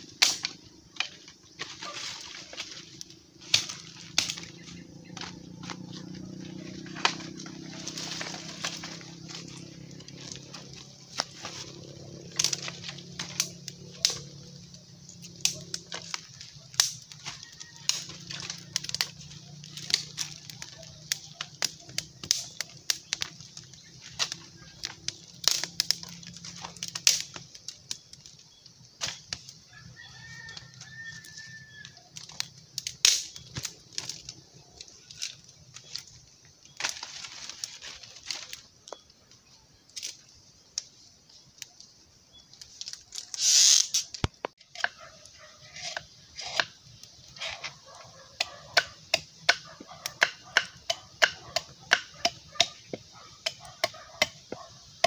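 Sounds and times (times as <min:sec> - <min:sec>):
dry twigs snapping: 0:00.0 - 0:29.6, 0:30.2 - 0:40.9, 0:41.6 - 0:55.0
wood fire crackling: 0:00.0 - 0:55.0.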